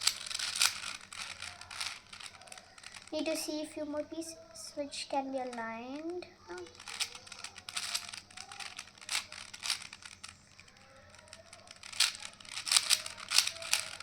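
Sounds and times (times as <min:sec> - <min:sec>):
puzzle cube clicking as turned: 0:00.0 - 0:03.1, 0:05.4 - 0:14.0.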